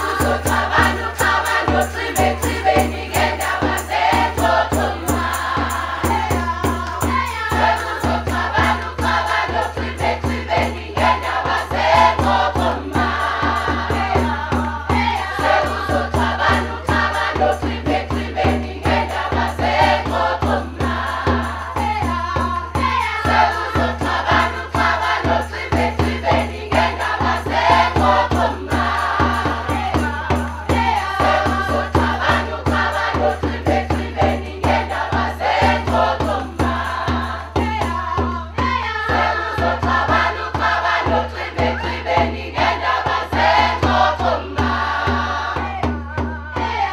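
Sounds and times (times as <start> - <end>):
steady rhythmic beat: 0.0 - 46.0
mixed choir singing: 0.0 - 46.9.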